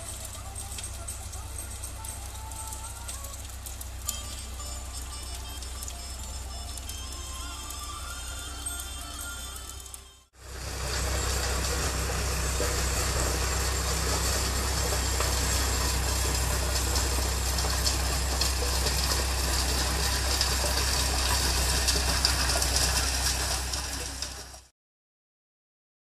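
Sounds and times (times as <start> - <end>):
tractor engine running: 0.0 - 24.7.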